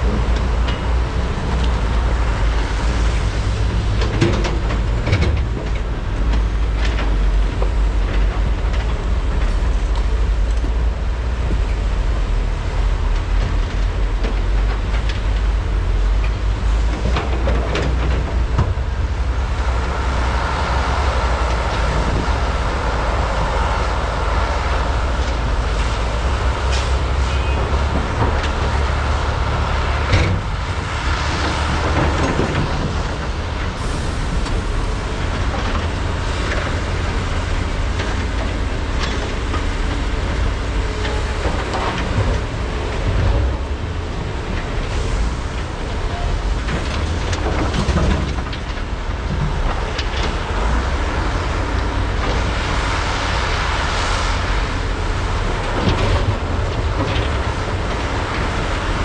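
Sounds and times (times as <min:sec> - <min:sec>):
excavator diesel engines rumbling: 0:00.0 - 0:59.0.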